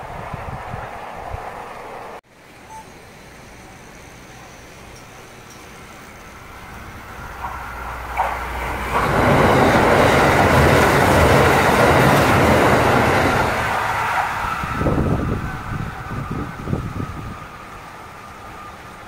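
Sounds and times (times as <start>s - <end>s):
train passing over steel bridge: 0.0s - 19.0s.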